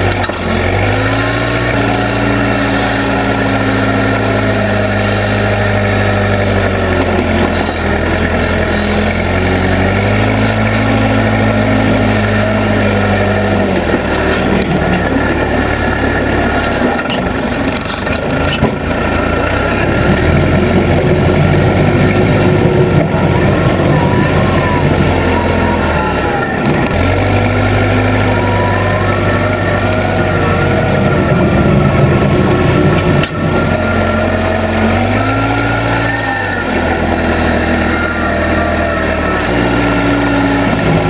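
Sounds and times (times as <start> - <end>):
backhoe engine running: 0.0 - 41.0.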